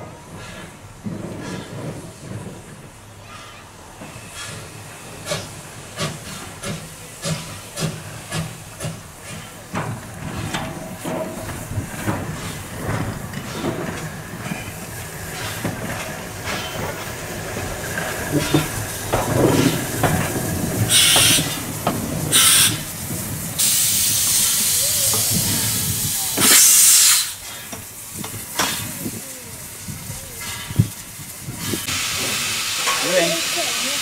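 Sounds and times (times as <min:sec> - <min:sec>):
steam locomotive rumbling: 0:00.0 - 0:34.0
steam hissing: 0:00.1 - 0:34.0.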